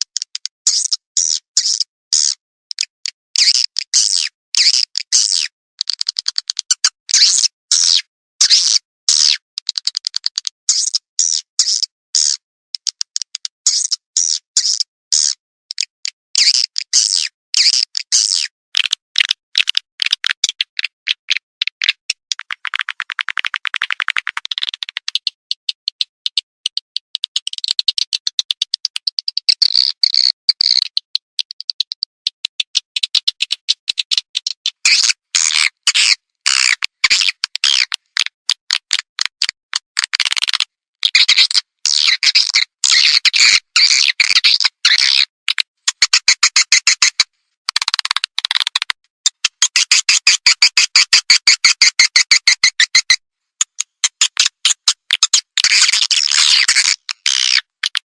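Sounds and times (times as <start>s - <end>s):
swiftlet chattering chirps and clicks: 0.0s - 58.0s.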